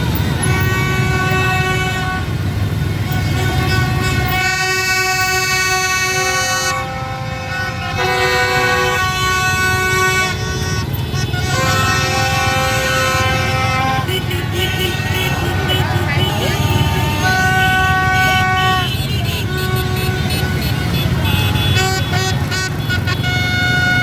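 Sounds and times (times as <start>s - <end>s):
horns blowing long tones: 0.0s - 24.0s
motorbike traffic rumble: 0.0s - 24.0s.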